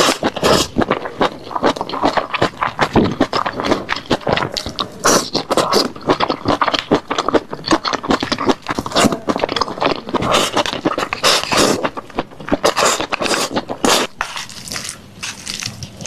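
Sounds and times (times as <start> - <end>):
chewing and mouth smacking: 0.0 - 16.0.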